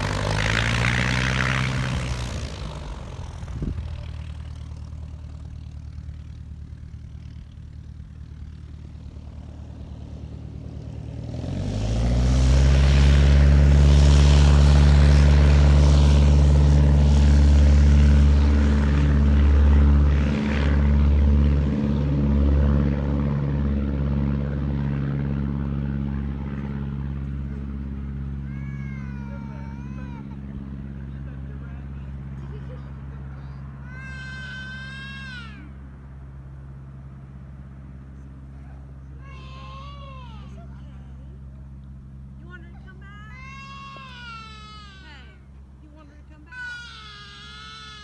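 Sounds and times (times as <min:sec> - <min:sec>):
light aircraft engine and propeller: 0:00.0 - 0:48.0.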